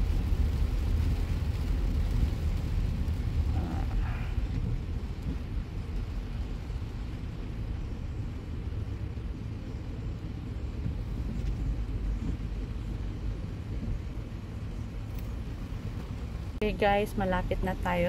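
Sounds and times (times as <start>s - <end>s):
car interior rumble while driving: 0.0s - 18.0s.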